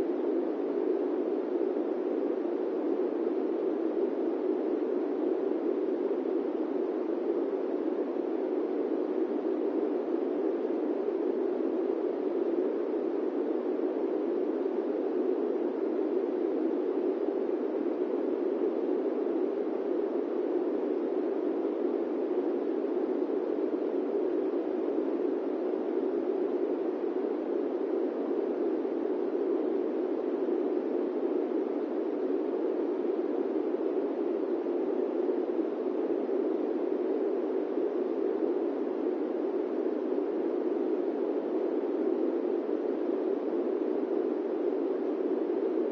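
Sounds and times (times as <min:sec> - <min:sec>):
airplane cabin white noise: 0:00.0 - 0:45.9.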